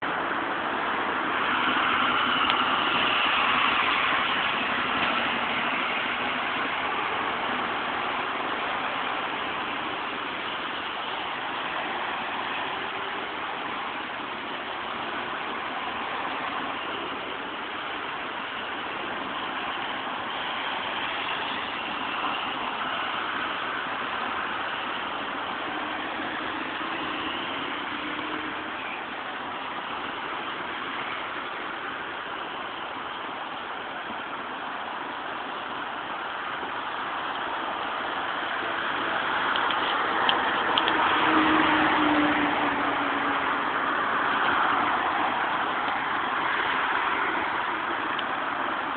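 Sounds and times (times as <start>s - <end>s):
heavy vehicle engines idling: 0.0s - 48.9s.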